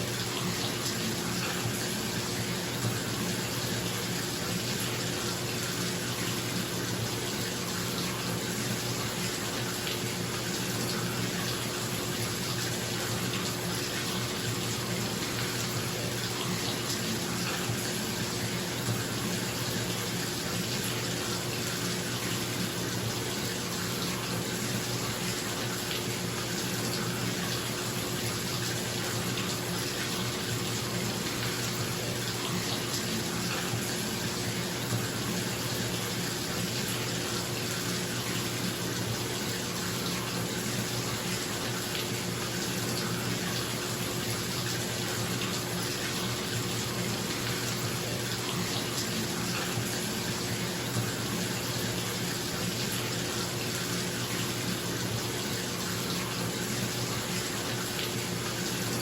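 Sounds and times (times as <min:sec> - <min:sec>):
tap running into bathtub: 0:07.4 - 0:54.8.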